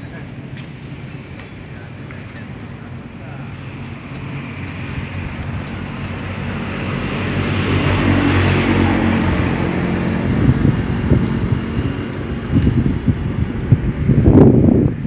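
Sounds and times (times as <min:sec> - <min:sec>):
wind buffeting microphone: 0:00.0 - 0:15.0
vehicle passing close by: 0:02.2 - 0:15.0.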